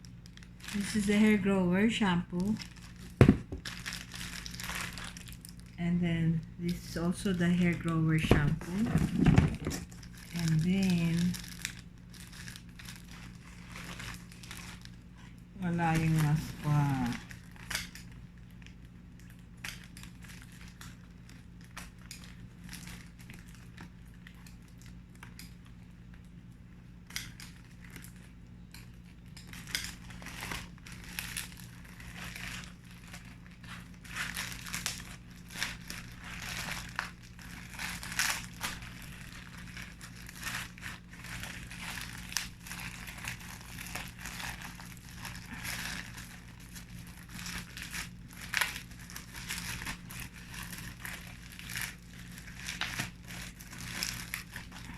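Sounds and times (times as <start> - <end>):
plastic packaging crinkling: 0.0 - 54.9.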